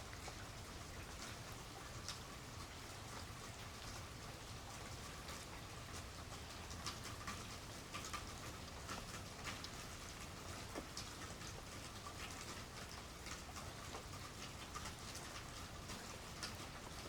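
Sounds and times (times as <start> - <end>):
light rain hiss: 0.0 - 17.0
raindrops ticking on surfaces: 0.0 - 17.0.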